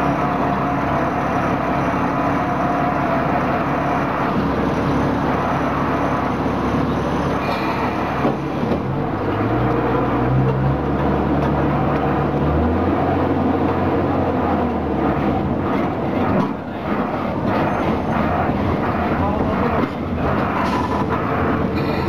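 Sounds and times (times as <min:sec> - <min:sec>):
diesel engine drone: 0:00.0 - 0:22.0
wheels rumbling on rails: 0:00.0 - 0:22.0.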